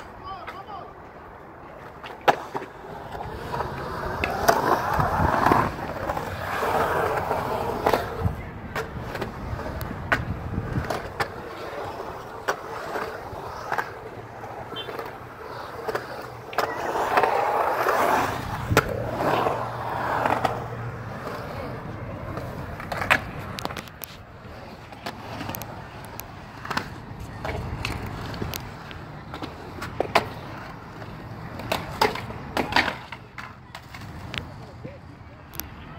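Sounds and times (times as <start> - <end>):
skateboard clacking on concrete: 0.0 - 35.8
skateboard wheels rolling on concrete: 0.0 - 35.9.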